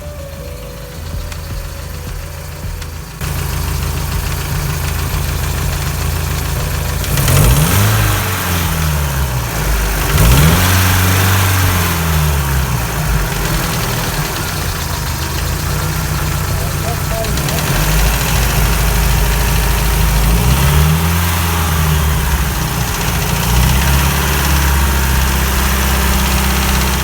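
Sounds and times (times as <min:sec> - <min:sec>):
engine piston knock: 0:00.0 - 0:27.0
petrol engine idling and revving: 0:00.0 - 0:27.0.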